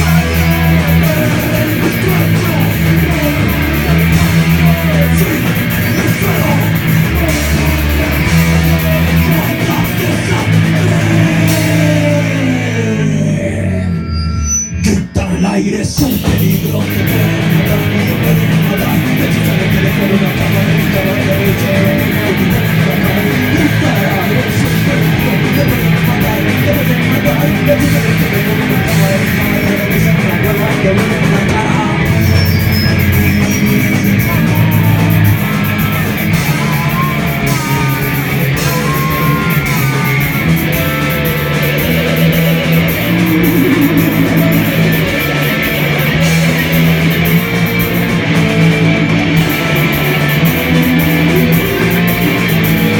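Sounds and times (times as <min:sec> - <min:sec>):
rock band playing: 0:00.0 - 0:13.8, 0:14.8 - 0:52.9
electric guitar notes bending: 0:00.0 - 0:52.9.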